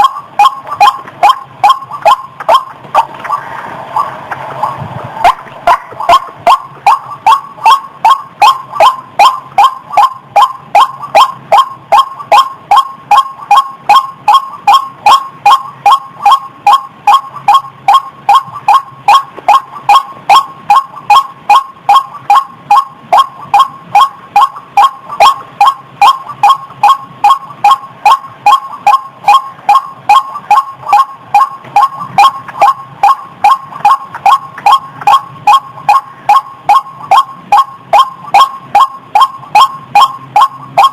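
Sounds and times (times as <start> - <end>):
waterhen calling: 0.0 - 40.9.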